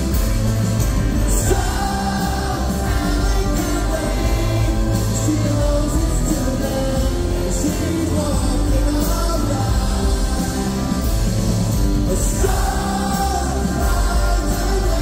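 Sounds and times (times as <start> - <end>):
crowd singing along: 0.0 - 15.0
live rock band playing: 0.0 - 15.0.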